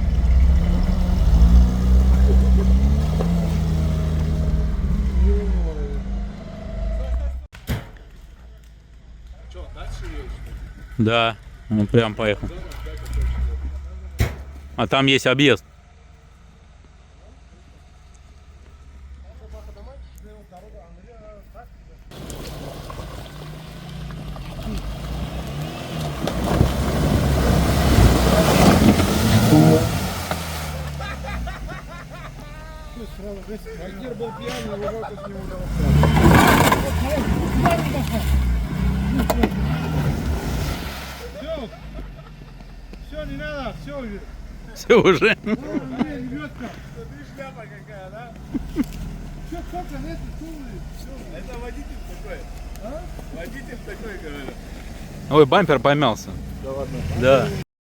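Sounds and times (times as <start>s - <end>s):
off-road vehicle engine revving: 0.0s - 7.5s, 9.2s - 20.4s, 21.5s - 57.7s.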